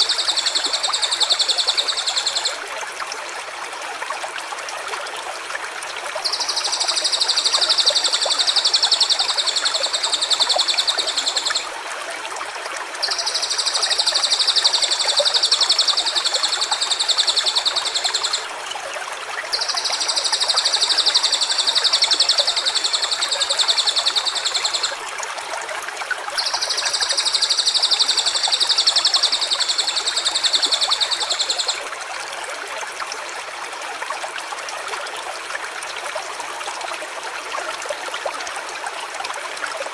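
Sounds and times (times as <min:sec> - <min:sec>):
running stream: 0:00.0 - 0:39.9.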